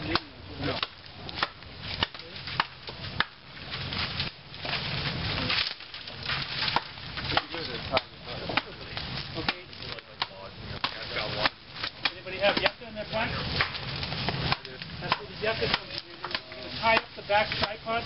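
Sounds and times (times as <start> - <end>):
brush rustling: 0.0 - 18.0
sticks cracking and knocking: 0.0 - 18.0.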